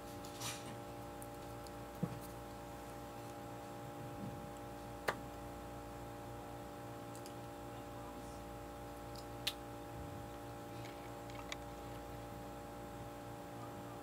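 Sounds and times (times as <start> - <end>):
steady hum of fixed tones: 0.0 - 14.0.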